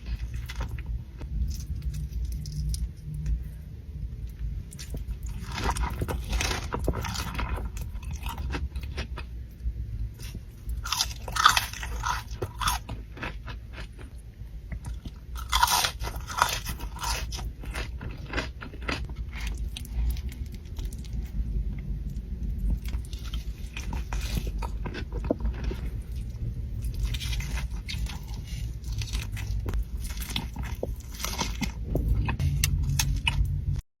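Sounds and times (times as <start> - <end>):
person chewing crunchy food: 0.0 - 3.6, 4.2 - 33.8.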